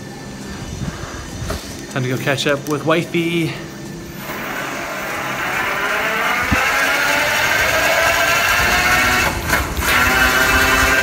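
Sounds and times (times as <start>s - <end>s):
electric bike motor whining: 0.0s - 2.8s, 3.5s - 11.0s.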